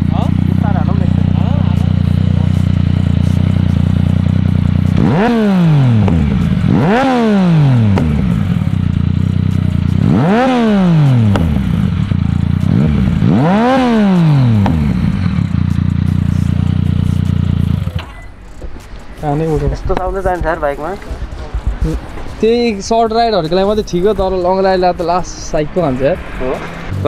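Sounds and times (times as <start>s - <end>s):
motorcycle engine revving: 0.0s - 18.5s, 22.8s - 27.0s.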